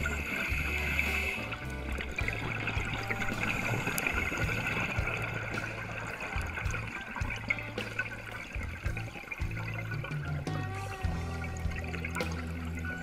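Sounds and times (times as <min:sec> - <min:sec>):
music with low bass line: 0:00.0 - 0:13.0
steady watery hiss: 0:00.0 - 0:13.0.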